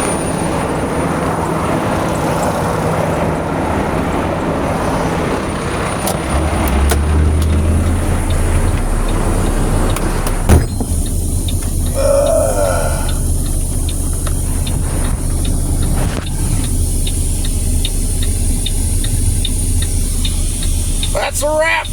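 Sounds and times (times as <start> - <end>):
diesel engine drone: 0.0 - 21.9.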